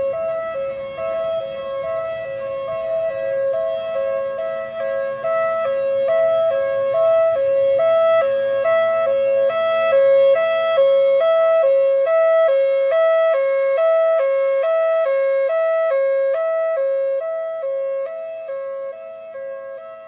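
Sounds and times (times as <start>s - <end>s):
hi-lo warning siren: 0.0s - 20.0s.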